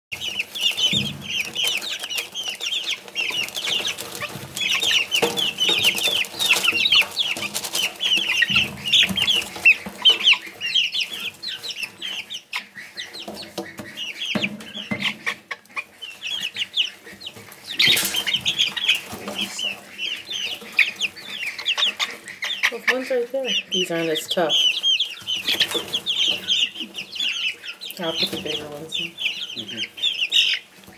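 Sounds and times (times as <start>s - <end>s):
chicks peeping: 0.1s - 30.9s
scratching in wood shavings: 0.1s - 30.9s.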